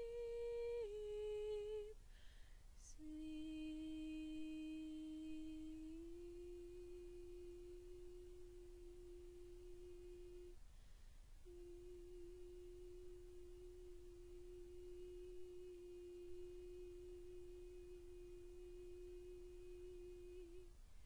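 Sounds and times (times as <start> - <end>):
soprano voice singing long note: 0.0 - 2.0, 2.8 - 10.6, 11.4 - 20.7.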